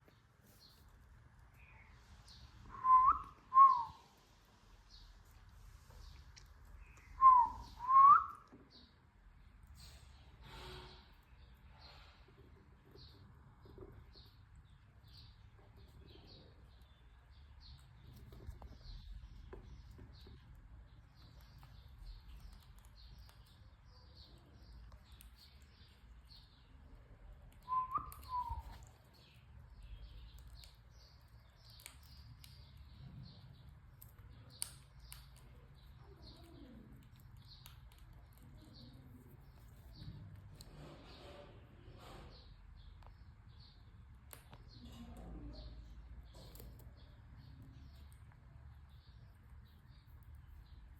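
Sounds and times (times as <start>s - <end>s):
birds chirping: 0.0s - 9.6s, 10.2s - 50.9s.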